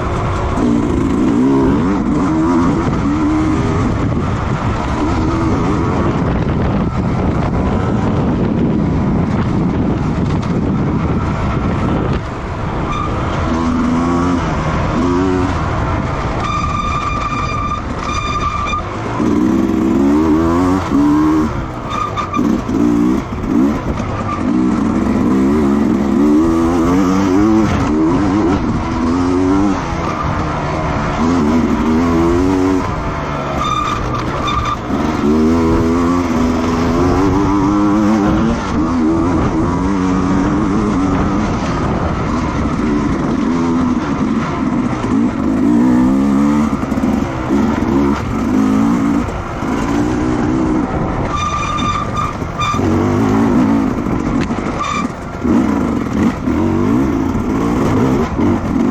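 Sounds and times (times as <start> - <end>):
racing motorcycle engines revving: 0.0 - 58.9.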